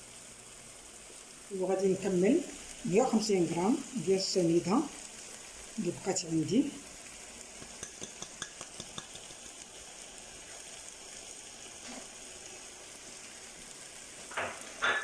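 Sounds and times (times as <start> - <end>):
onions sizzling in frying pan: 0.0 - 15.0.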